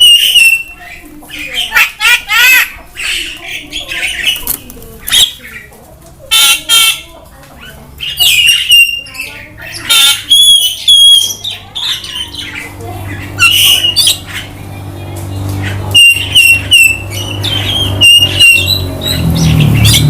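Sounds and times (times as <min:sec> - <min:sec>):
myna squawking and whistling: 0:00.0 - 0:05.6, 0:08.0 - 0:14.5, 0:15.7 - 0:20.0.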